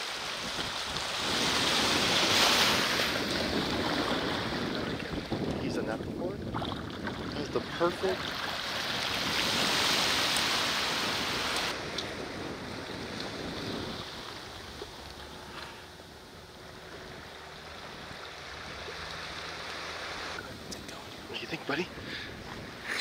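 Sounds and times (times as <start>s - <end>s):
small waves washing on shore: 0.0s - 23.0s.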